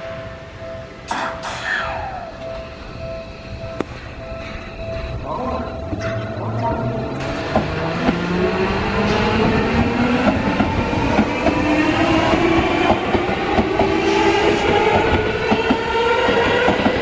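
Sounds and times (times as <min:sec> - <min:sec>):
train cars rumbling: 0:00.0 - 0:17.0.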